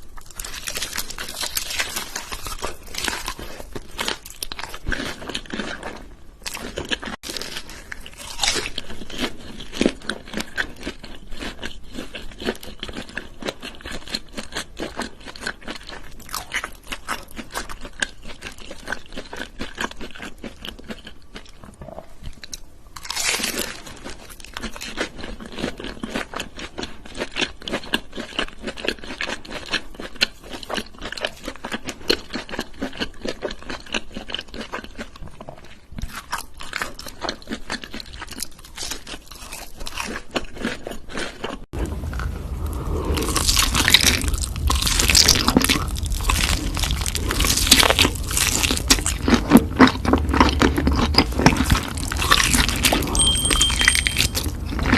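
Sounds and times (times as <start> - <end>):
crunchy food chewing: 0.0 - 54.9.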